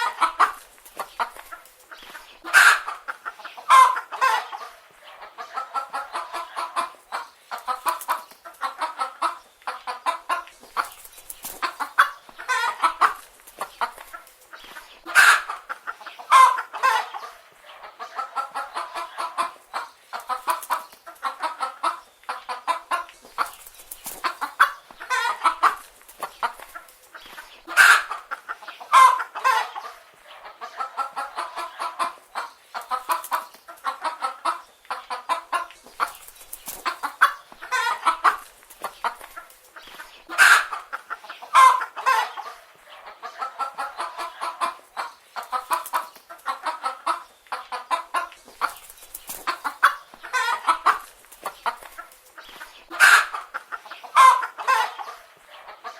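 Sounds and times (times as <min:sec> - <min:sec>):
hens clucking: 0:00.0 - 0:55.9.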